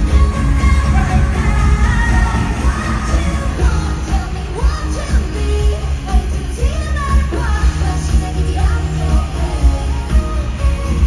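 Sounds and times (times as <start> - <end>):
pop backing track with heavy bass: 0.0 - 11.0
women singing pop song: 0.0 - 11.0.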